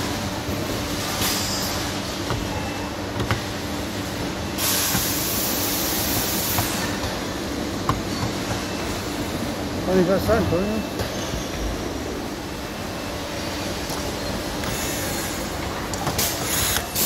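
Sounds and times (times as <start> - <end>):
machinery rumble and hum: 0.0 - 17.0.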